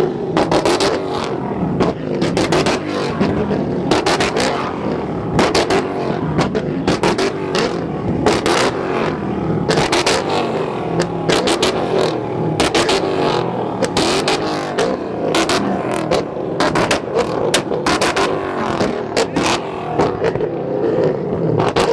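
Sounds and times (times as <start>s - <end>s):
car engines revving: 0.0s - 21.9s
exhaust cracks and pops: 0.3s - 21.9s.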